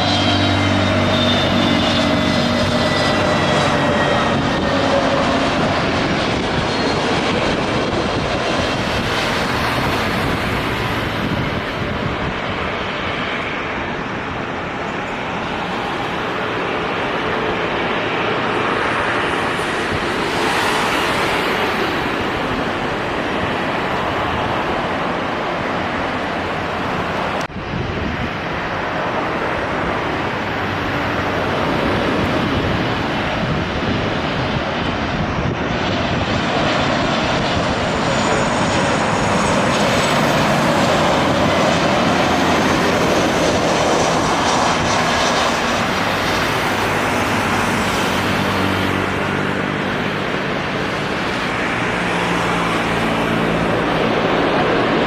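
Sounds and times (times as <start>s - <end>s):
high turbine whine: 0.0s - 55.0s
jet engines rushing: 0.0s - 55.0s.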